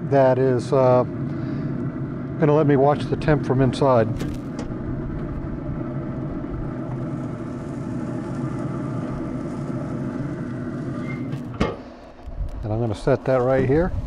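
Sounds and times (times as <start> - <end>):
grill fan motor humming: 0.0 - 14.0.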